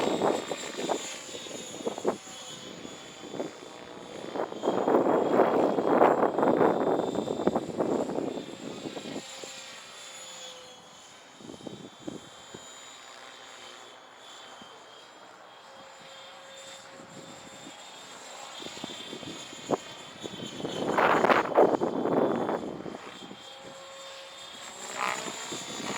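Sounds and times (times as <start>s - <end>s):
electric motor and gear whine: 0.0s - 25.9s
rc helicopter rotor blades: 0.0s - 25.9s.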